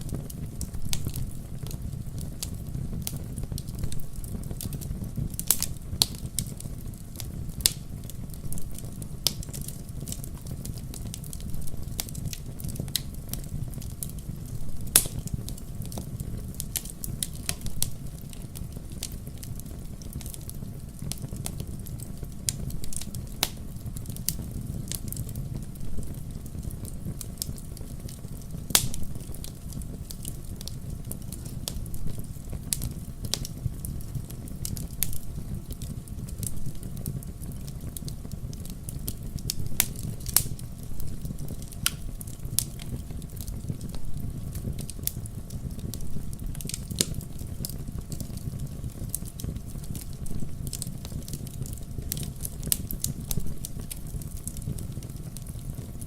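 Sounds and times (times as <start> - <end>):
fire rumbling in fireplace: 0.0 - 56.0
wood fire crackles and pops: 0.0 - 56.0.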